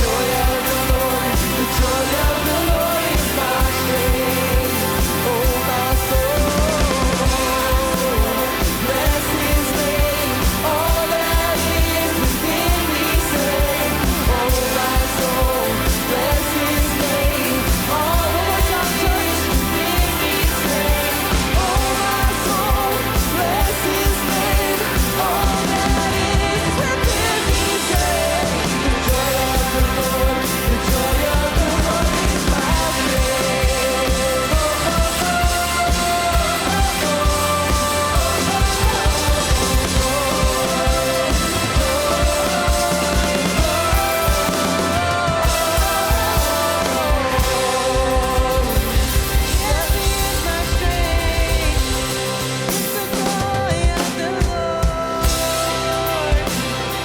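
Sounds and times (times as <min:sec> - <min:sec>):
person singing: 0:00.0 - 0:57.0
steady drum beat: 0:00.0 - 0:57.0
worship band playing: 0:00.0 - 0:57.0.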